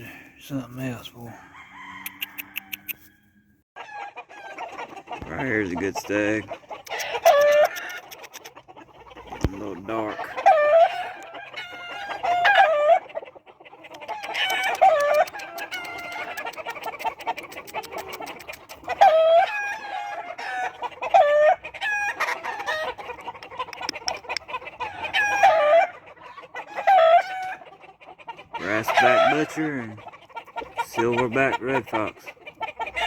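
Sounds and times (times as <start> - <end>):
roosters crowing: 0.1 - 27.8, 28.5 - 33.0.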